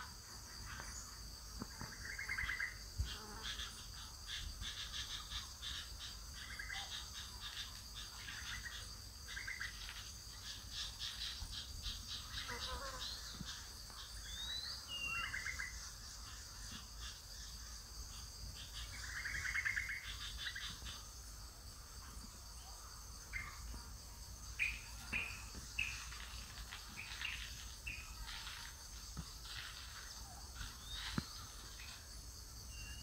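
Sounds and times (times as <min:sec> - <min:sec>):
insect drone: 0:00.0 - 0:33.0
birds chirping and trilling: 0:01.8 - 0:21.1, 0:24.4 - 0:33.0.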